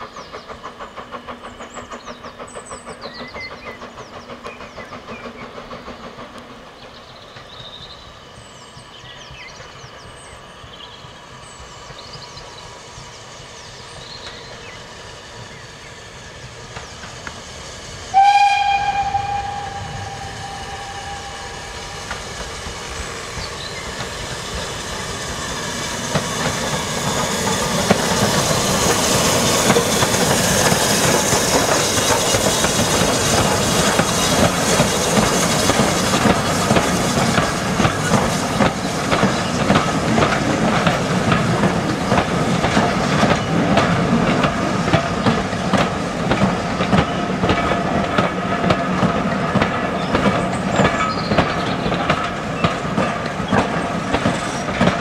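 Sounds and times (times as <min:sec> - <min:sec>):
steam locomotive working: 0:00.0 - 0:55.0
train wheels clickety-clack: 0:00.0 - 0:55.0.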